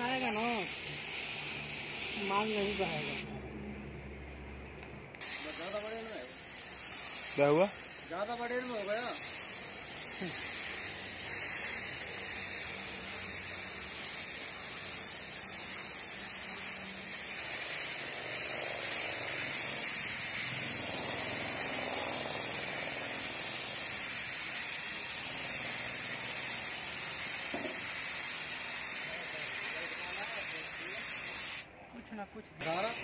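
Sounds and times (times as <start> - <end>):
spray gun hissing: 0.0 - 3.3, 5.2 - 31.7, 32.6 - 33.0.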